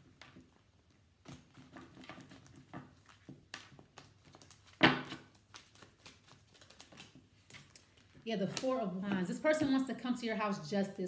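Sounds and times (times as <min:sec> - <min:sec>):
cards being shuffled by hand: 0:00.0 - 0:09.7.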